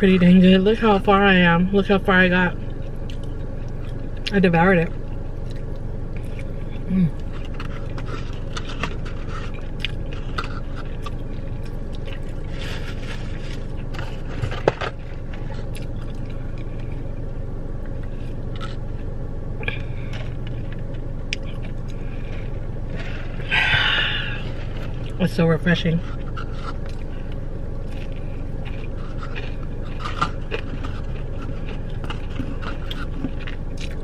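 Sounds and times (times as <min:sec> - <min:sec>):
car interior hum: 0:00.0 - 0:34.0.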